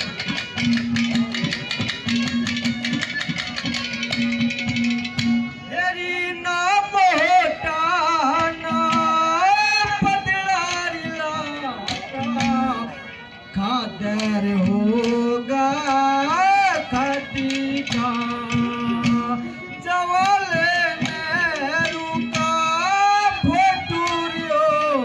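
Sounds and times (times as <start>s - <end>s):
drumming: 0.0s - 25.0s
held instrumental drone: 0.0s - 25.0s.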